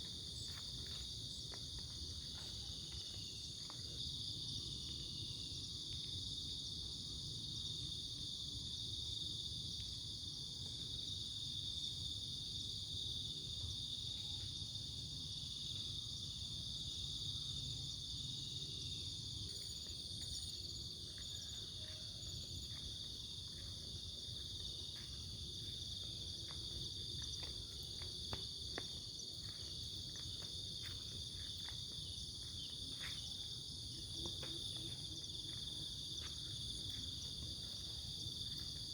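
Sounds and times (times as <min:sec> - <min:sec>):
crickets chirring: 0:00.0 - 0:38.9.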